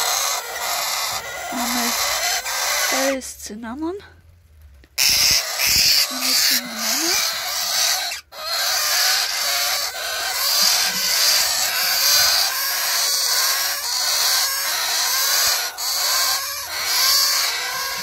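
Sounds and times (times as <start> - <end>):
nestling parrots begging calls: 0.0 - 4.0, 4.9 - 18.0.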